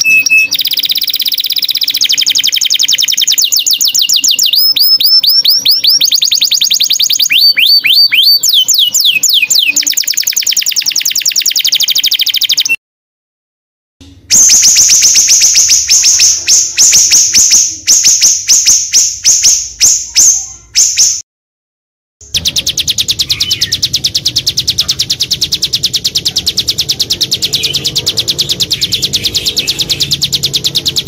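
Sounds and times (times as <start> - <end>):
songbird chattering song: 0.0 - 12.8, 14.4 - 21.2, 22.2 - 31.0.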